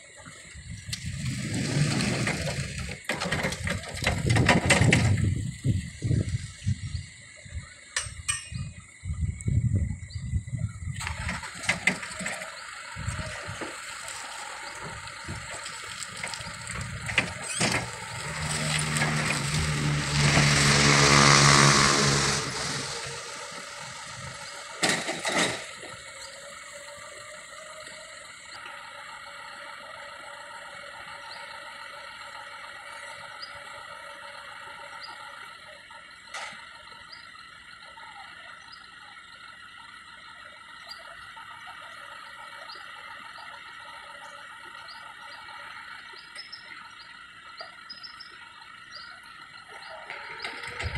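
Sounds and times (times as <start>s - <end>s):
forklift engine and hydraulics: 0.0s - 50.9s.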